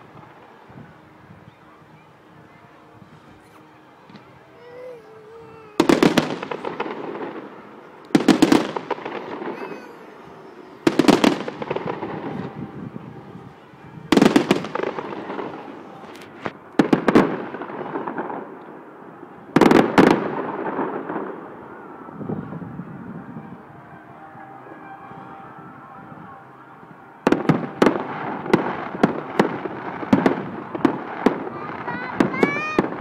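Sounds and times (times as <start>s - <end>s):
firework crackling: 0.0s - 33.0s.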